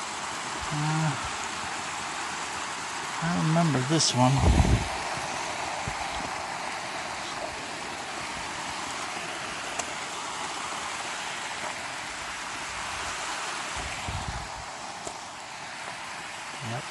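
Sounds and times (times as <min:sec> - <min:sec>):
creek water rushing over rocks: 0:00.0 - 0:16.9.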